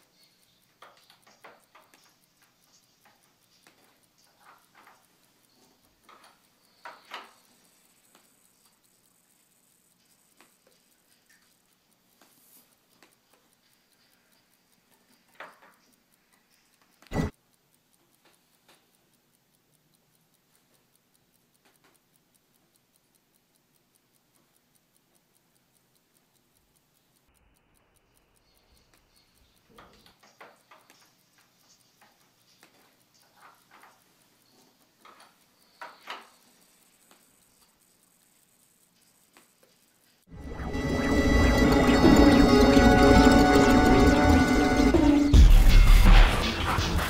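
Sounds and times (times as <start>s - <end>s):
quiet clicks and ticks: 0.0s - 47.0s.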